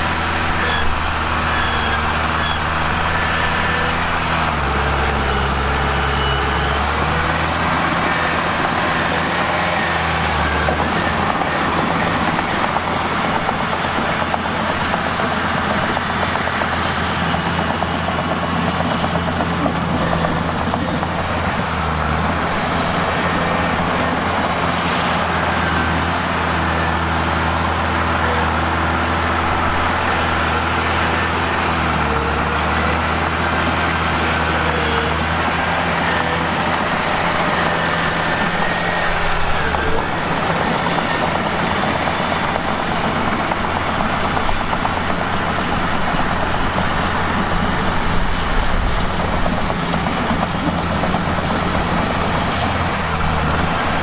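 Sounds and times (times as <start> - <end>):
bulldozer diesel engine running: 0.0 - 54.0
bulldozer pushing rock: 0.0 - 54.0.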